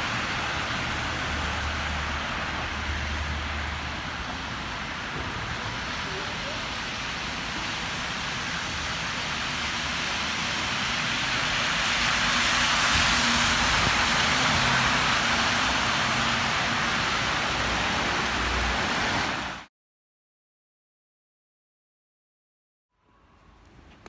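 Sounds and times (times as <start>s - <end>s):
bus engine hum: 0.0s - 19.6s
tyres hissing on snowy road: 0.0s - 19.7s.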